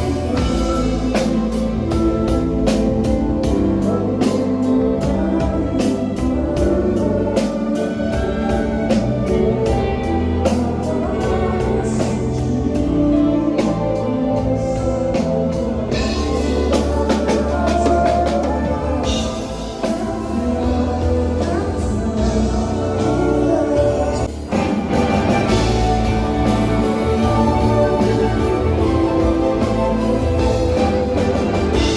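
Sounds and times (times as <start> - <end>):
drums beating steadily: 0.0 - 31.9
rock band playing live: 0.0 - 31.9.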